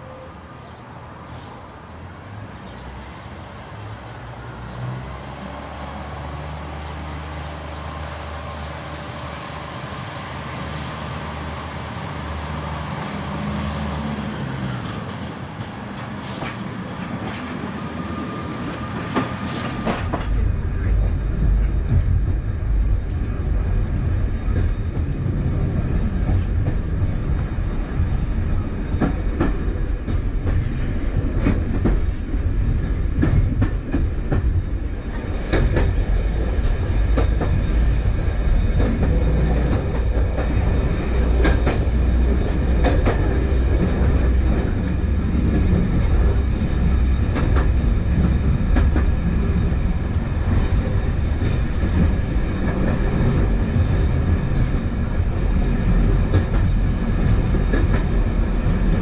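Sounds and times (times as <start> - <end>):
diesel train rumble: 0.0 - 59.0.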